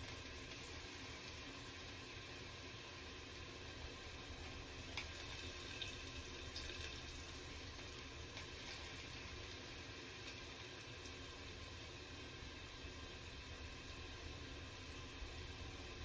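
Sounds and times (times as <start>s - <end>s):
potatoes sizzling in oil: 0.0s - 16.0s.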